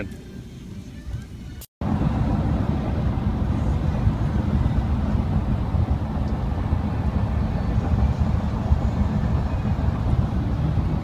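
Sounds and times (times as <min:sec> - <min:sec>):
road and engine rumble in van: 0:00.0 - 0:11.0.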